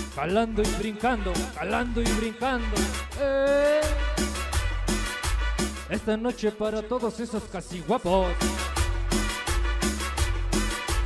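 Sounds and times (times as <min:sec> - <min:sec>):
cumbia music over sound system: 0:00.0 - 0:11.0.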